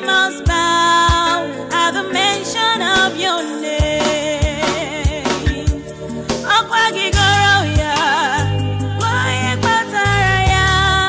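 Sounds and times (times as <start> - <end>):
gospel song with drum beat: 0.0 - 11.0.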